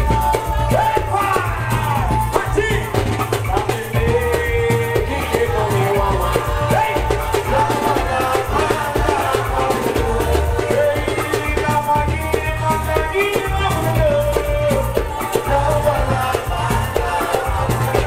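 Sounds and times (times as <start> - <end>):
dance music over loudspeakers: 0.0 - 18.0
person singing: 0.0 - 18.0.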